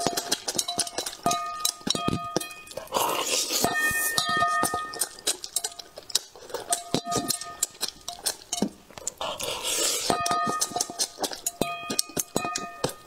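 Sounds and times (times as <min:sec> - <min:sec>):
wooden chopsticks tapping: 0:00.0 - 0:02.8, 0:03.7 - 0:09.2, 0:10.1 - 0:13.0
wet mouth clicks and smacks chewing: 0:00.0 - 0:13.0.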